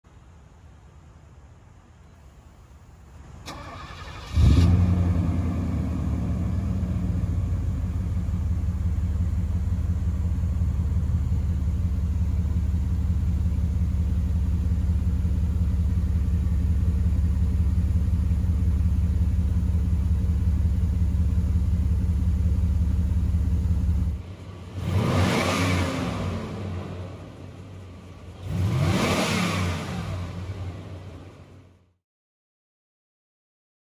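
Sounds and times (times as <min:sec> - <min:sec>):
car engine starting and idling: 0:03.1 - 0:31.9
engine revving: 0:03.5 - 0:31.7.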